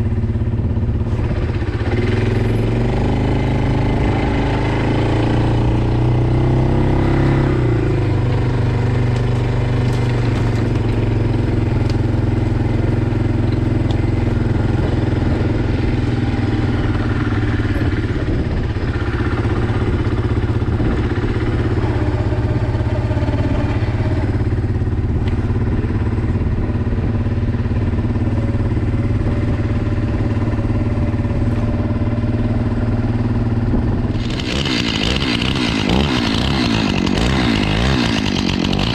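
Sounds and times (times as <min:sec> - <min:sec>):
higher-pitched engine: 0:00.0 - 0:38.9
small petrol engine running: 0:00.0 - 0:38.9.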